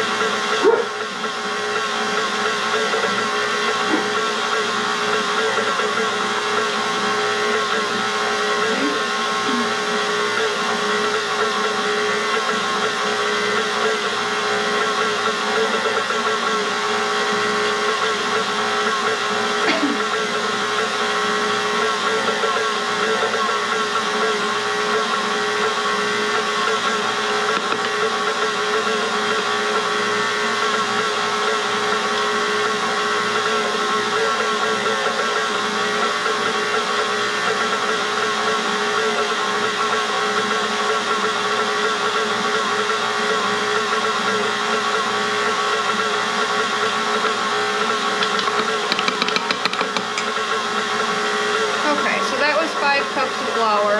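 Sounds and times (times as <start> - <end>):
stand mixer motor whine: 0.0 - 53.9.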